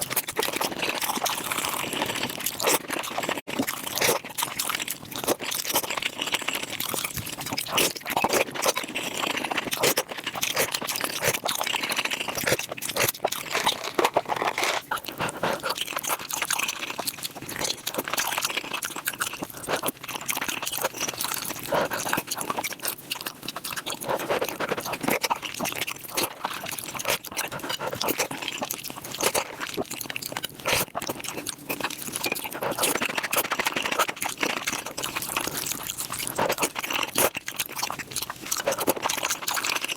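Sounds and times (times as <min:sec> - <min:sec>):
sped-up chewing and crunching: 0:00.0 - 0:39.9.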